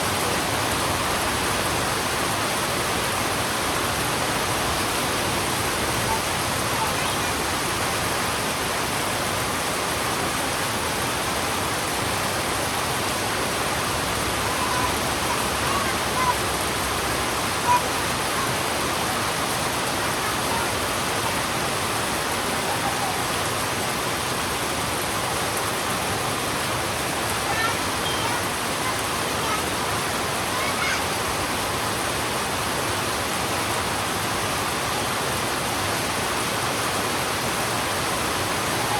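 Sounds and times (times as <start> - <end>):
heavy rain on a road: 0.0 - 38.9.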